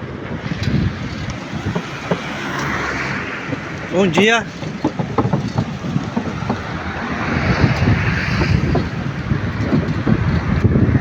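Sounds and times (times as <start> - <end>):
sea surf washing onto beach: 0.0 - 11.0
wave breaking: 0.0 - 11.0
wind buffeting microphone: 0.0 - 11.0.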